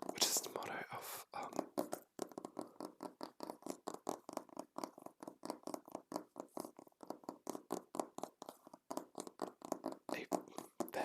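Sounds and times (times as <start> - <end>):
fingers tapping on a book: 0.0 - 11.0.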